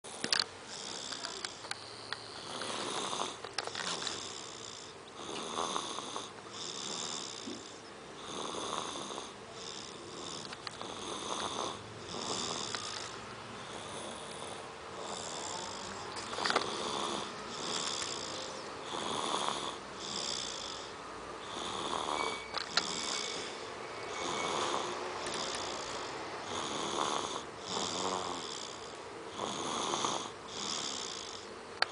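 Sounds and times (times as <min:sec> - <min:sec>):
person snoring: 0:00.1 - 0:31.5.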